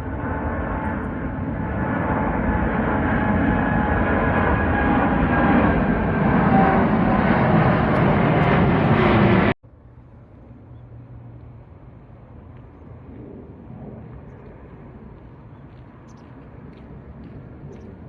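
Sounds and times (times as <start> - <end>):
airliner engines roaring: 0.0 - 18.0.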